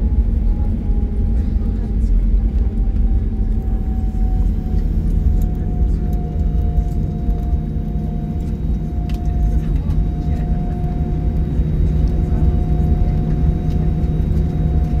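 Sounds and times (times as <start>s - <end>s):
aircraft engine hum: 0.0s - 15.0s.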